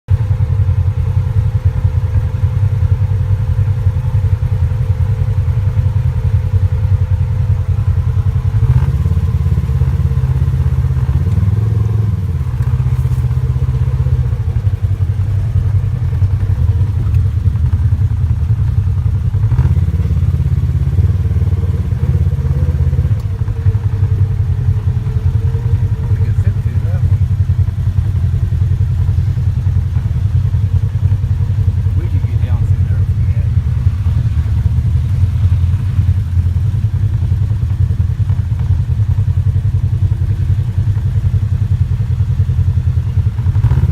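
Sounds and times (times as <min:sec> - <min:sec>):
atv engine running: 0:00.1 - 0:43.9.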